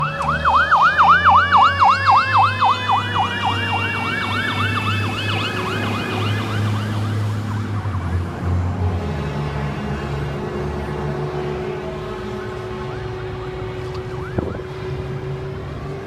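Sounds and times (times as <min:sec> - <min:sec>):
fire truck siren yelping: 0:00.0 - 0:15.9
diesel engine rumble: 0:00.0 - 0:16.0.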